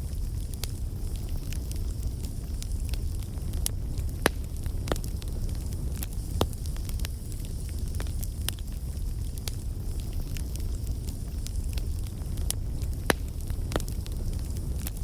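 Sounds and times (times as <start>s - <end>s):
bonfire crackling and popping: 0.0s - 15.0s
low fire rumble: 0.0s - 15.0s.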